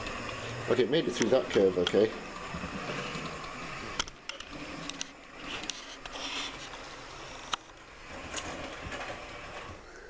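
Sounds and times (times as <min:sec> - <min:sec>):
model train motor whirring: 0:00.0 - 0:10.0.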